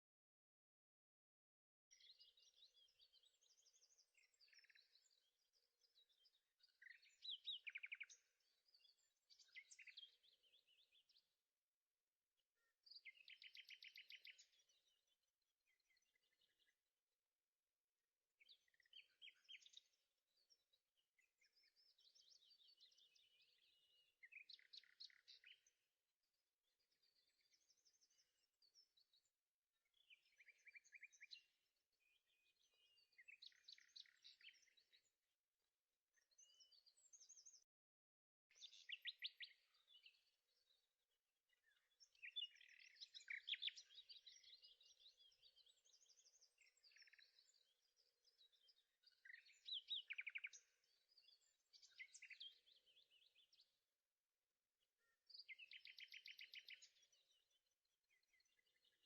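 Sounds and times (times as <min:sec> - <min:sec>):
faint birdsong chirps and trills: 0:00.0 - 0:59.0.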